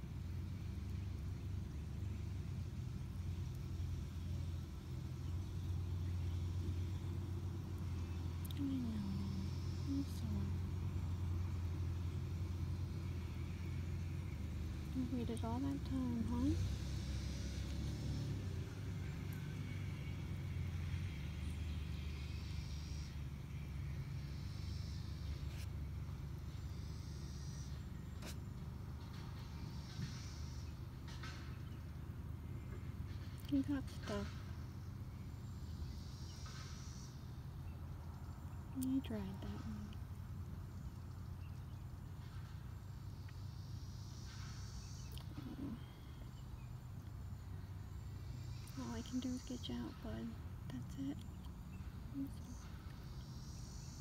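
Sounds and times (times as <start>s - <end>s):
distant cicada chorus: 0.0s - 54.0s
low background rumble: 0.0s - 54.0s.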